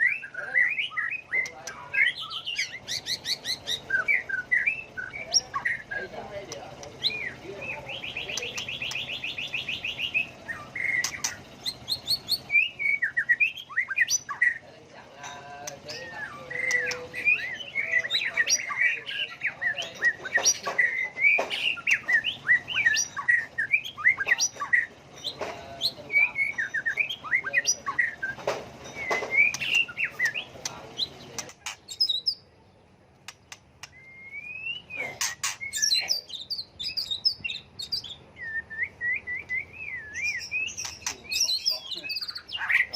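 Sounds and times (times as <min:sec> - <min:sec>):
bird singing varied song: 0:00.0 - 0:42.9.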